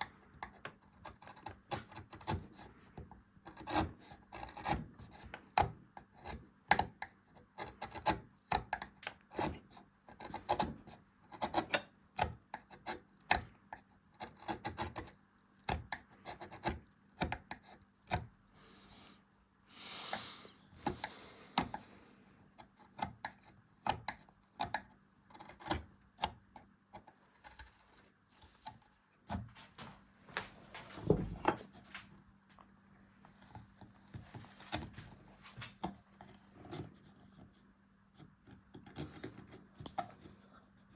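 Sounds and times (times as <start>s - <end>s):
carving tool scraping wood: 0.0s - 19.2s, 20.0s - 29.5s, 33.4s - 40.9s.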